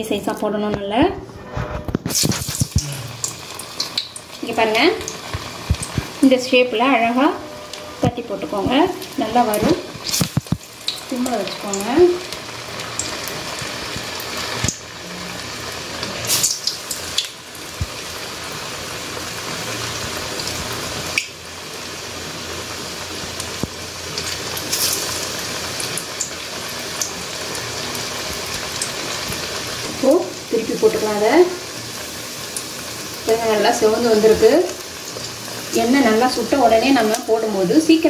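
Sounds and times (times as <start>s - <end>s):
food sizzling in oil: 0.0s - 38.0s.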